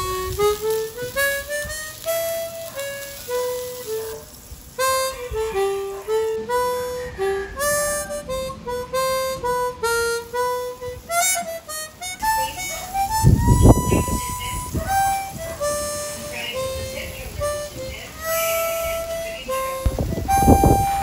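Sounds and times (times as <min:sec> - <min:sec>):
reedy wind instrument melody: 0:00.0 - 0:21.0.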